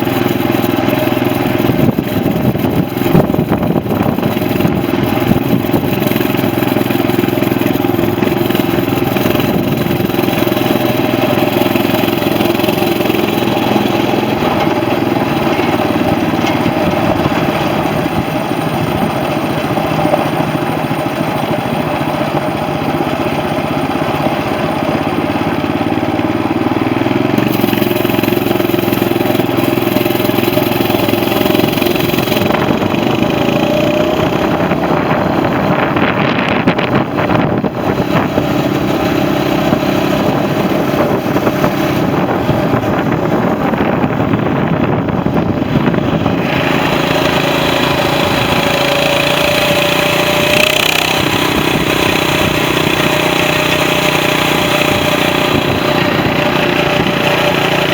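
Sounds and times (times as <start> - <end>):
mini bike engine running: 0.0 - 57.9.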